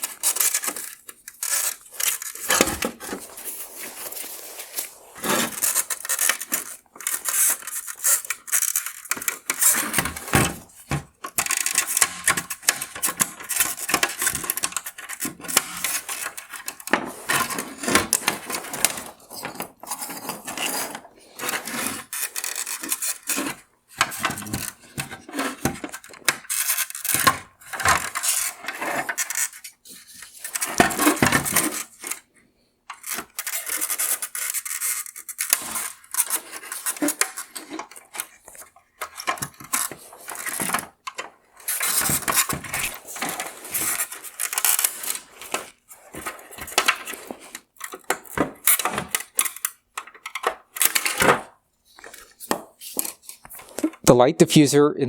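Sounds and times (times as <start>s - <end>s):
hard plastic scraping and clicking: 0.0s - 32.3s, 32.9s - 54.1s.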